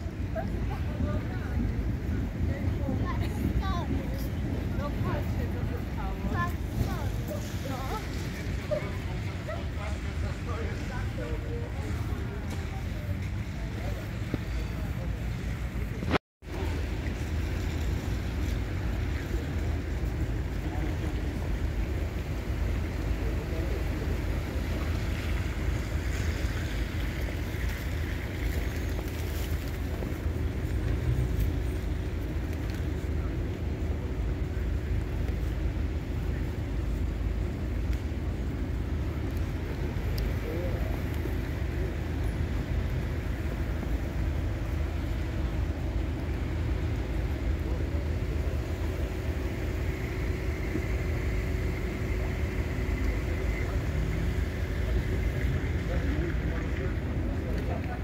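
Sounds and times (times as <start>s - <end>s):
low rumble of street traffic: 0.0s - 58.0s.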